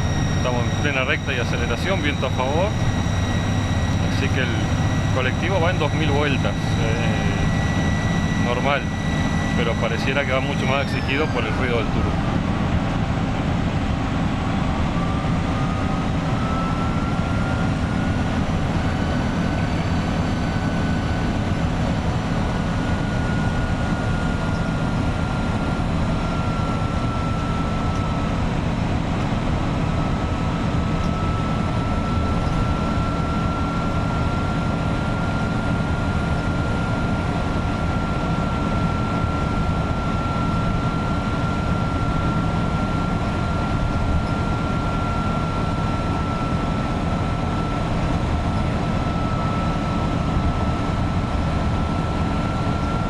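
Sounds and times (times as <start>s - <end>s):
bus diesel engine running: 0.0s - 53.0s.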